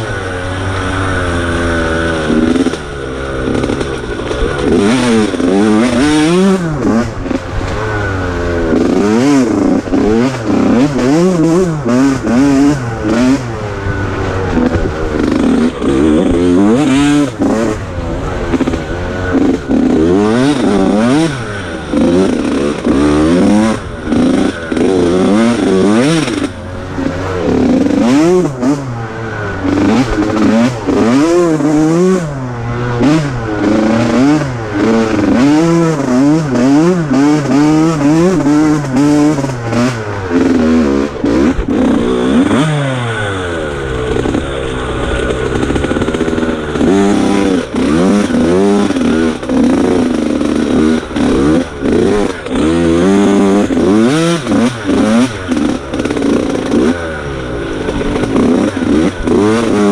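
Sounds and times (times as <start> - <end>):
off-road engine revving: 0.0 - 59.9.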